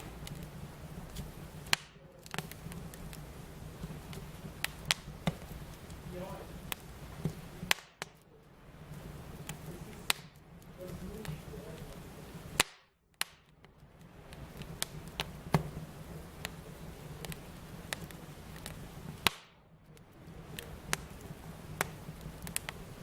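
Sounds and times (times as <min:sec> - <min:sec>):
fire pops: 0:00.0 - 0:23.0
low steady hiss: 0:00.0 - 0:23.0
wood fire crackling: 0:00.0 - 0:23.0.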